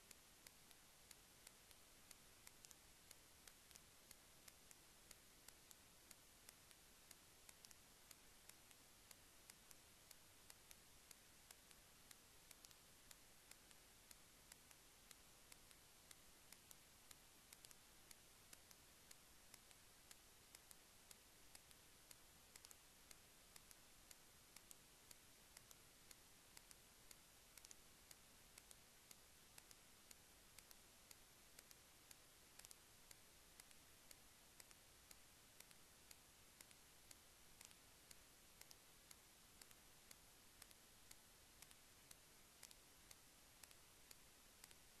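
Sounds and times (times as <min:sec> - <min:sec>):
faint quick clicks: 0:00.0 - 0:45.0
low steady hiss: 0:00.0 - 0:45.0.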